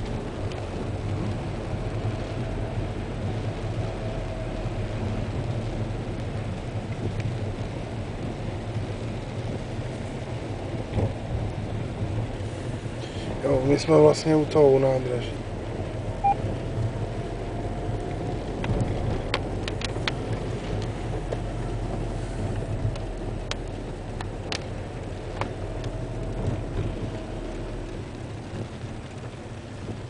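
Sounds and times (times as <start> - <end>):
car engine hum: 0.0 - 30.0
tyre noise on wet road: 0.0 - 30.0.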